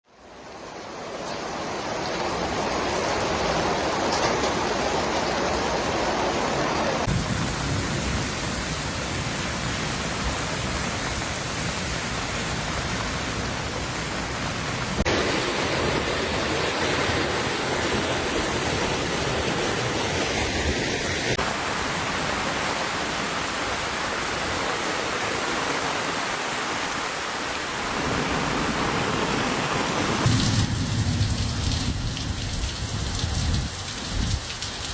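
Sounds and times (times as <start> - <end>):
rushing water: 0.0 - 34.9
torrential rain: 0.0 - 34.9.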